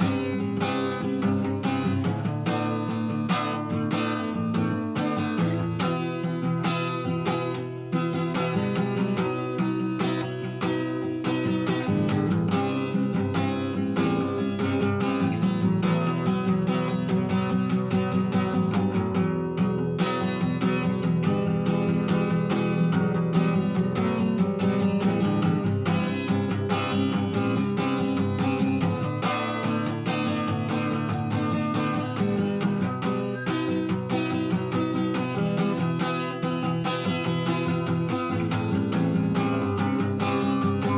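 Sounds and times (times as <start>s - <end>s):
acoustic guitar picking: 0.0s - 40.9s.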